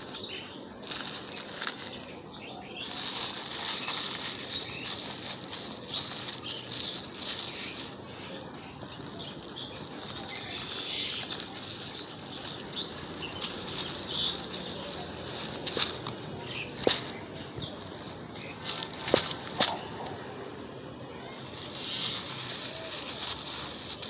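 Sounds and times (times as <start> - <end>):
plastic bags crinkling: 0.0 - 20.2, 21.2 - 24.0.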